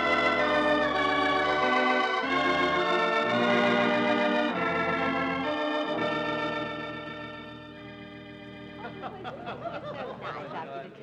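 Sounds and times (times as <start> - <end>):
organ chords: 0.0 - 11.0.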